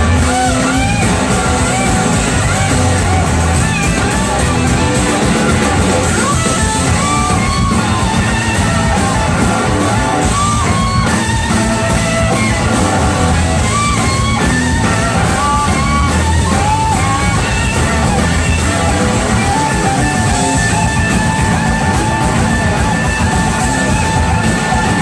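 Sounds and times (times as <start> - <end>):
electric guitar gliding notes: 0.0 - 25.0
live rock band playing: 0.0 - 25.0.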